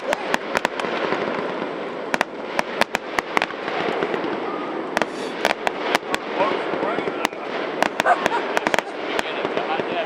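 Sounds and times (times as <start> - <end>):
constant noisy wash: 0.0 - 10.0
fireworks cracking and popping: 0.0 - 10.0.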